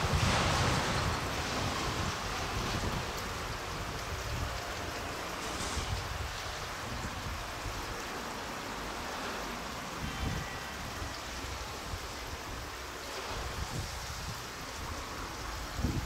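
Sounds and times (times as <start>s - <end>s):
wind buffeting microphone: 0.0s - 8.2s, 10.0s - 16.0s.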